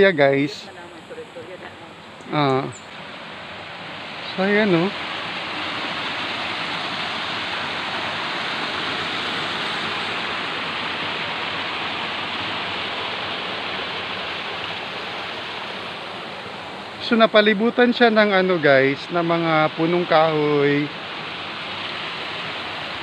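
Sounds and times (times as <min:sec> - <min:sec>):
water rushing through channel: 0:00.0 - 0:23.0.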